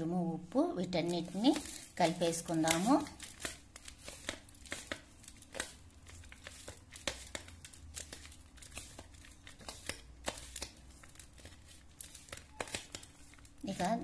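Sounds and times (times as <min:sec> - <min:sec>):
chopped vegetables rustling: 0:00.8 - 0:14.0.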